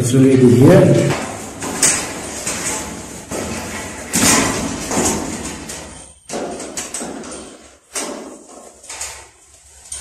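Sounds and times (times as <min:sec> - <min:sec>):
electrical wires scraping and rustling: 0:00.0 - 0:10.0.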